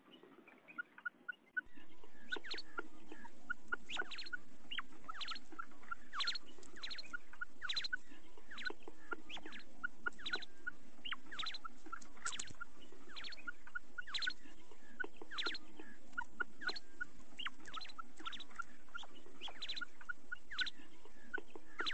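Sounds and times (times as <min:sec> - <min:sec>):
quail calling: 0:00.7 - 0:21.9.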